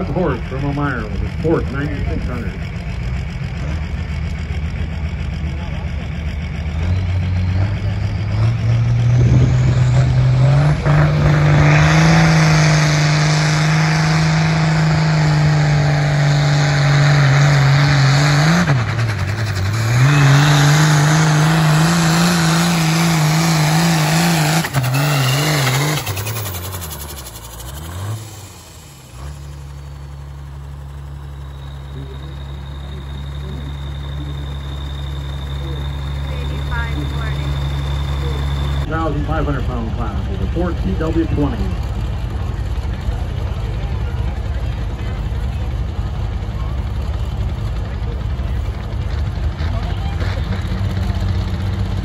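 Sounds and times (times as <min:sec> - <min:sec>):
tractor engine at full throttle: 0:00.0 - 0:52.0.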